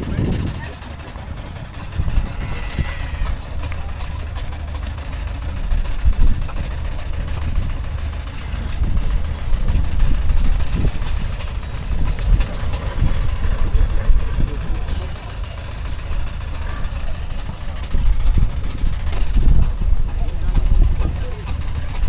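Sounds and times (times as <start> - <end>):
steam engines rumbling: 0.0 - 22.0.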